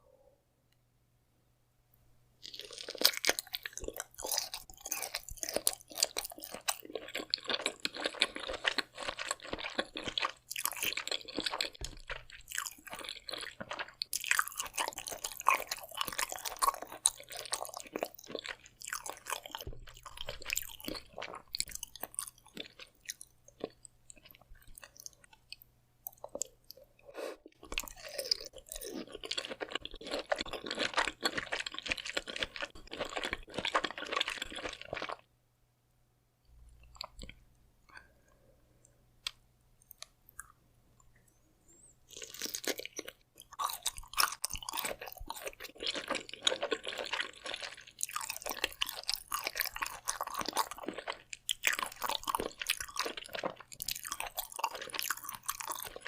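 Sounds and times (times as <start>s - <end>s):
wet chewing: 2.4s - 35.2s, 42.1s - 56.0s.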